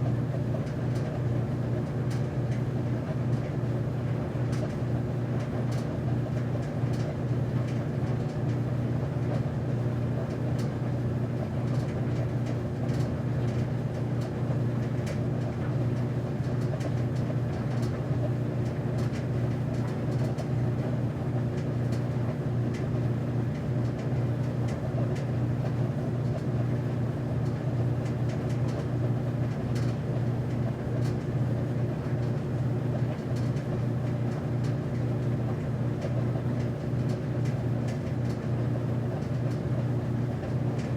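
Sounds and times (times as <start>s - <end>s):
washer-dryer motor hum: 0.0s - 40.9s.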